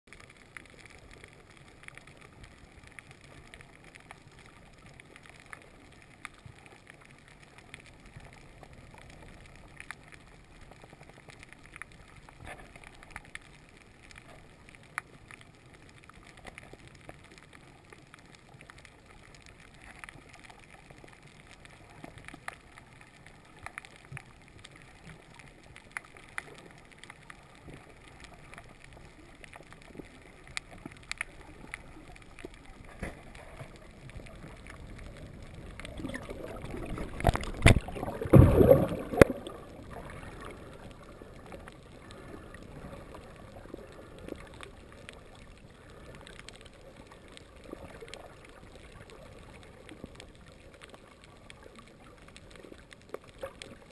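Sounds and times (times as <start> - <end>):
faint steady hiss: 0.1 - 53.9
sharp underwater clicks and crackles: 0.1 - 53.9.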